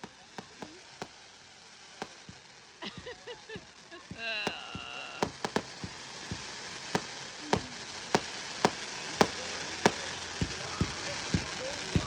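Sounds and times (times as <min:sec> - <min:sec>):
fireworks bangs and pops: 0:00.0 - 0:12.0
steady hiss: 0:00.0 - 0:12.0.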